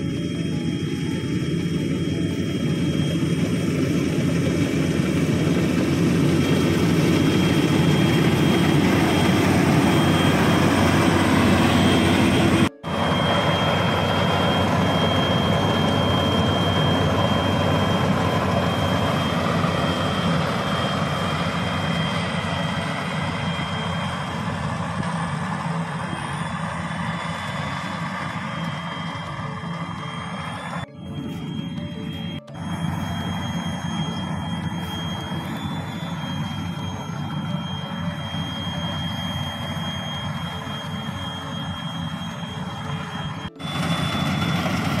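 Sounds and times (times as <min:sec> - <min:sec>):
combine harvester engine drone: 0:00.0 - 0:45.0
thin high whine: 0:00.0 - 0:45.0.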